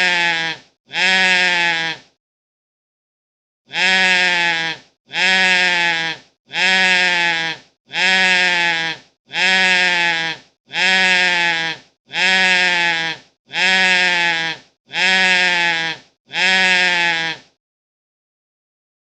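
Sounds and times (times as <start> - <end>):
goat screaming: 0.0 - 2.1, 3.7 - 17.5.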